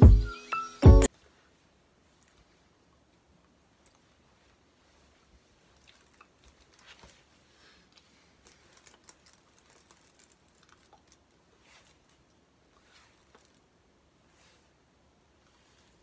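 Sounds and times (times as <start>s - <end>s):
soft clicks and rustles of hands: 2.1s - 16.0s.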